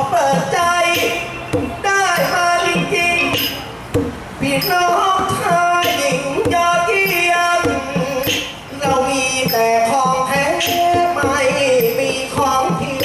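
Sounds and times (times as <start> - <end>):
instrumental backing: 0.0 - 13.0.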